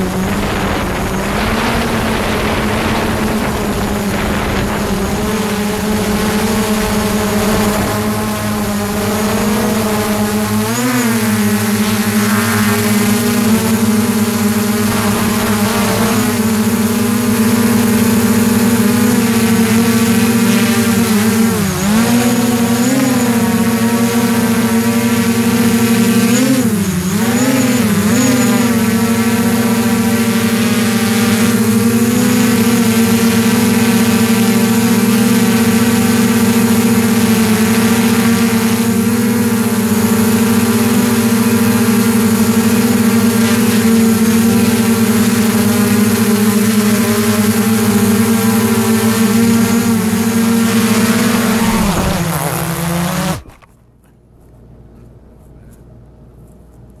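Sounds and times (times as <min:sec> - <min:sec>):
drone propellers humming: 0:00.0 - 0:55.6.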